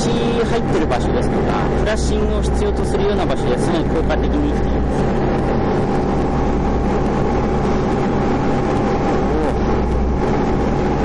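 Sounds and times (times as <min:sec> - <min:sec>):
engine rumble: 0:00.0 - 0:11.0
faint constant hum: 0:00.0 - 0:11.0.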